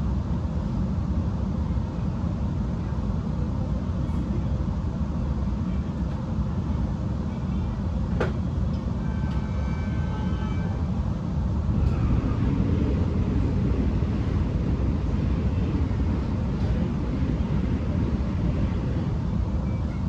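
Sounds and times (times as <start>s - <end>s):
train rumbling inside carriage: 0.0s - 20.0s.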